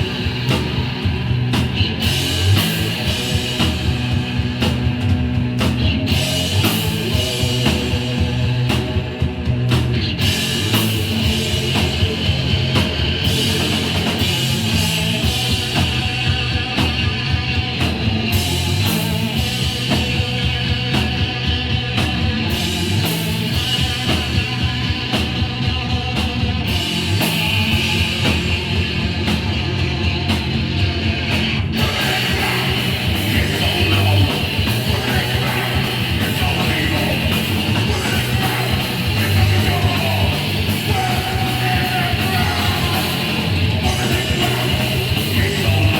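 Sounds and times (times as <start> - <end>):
punk band playing live: 0.0 - 45.9.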